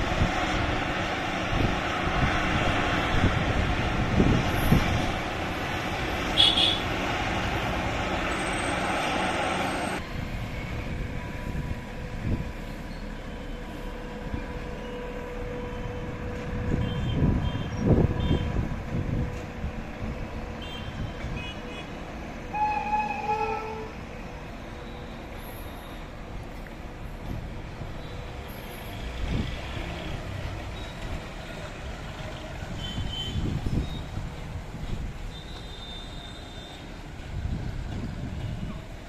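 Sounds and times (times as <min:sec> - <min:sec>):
freight train rumbling past: 0:00.0 - 0:39.0.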